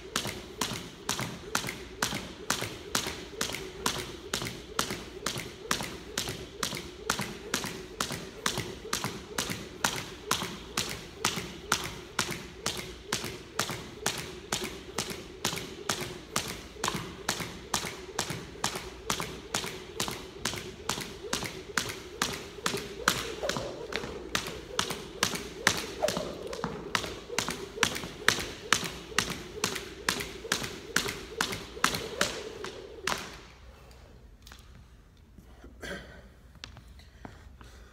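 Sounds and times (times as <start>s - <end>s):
jump rope slapping wooden floor: 0.0s - 33.6s.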